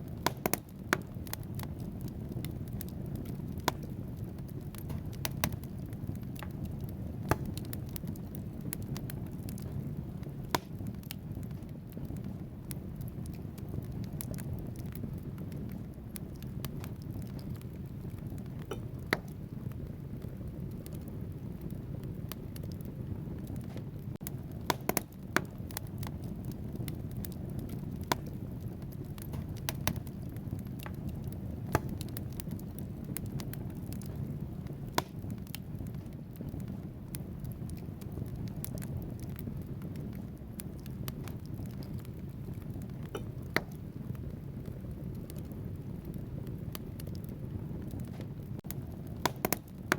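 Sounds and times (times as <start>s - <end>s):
logs crackling and popping: 0.0s - 49.9s
low roar of flames: 0.0s - 49.9s.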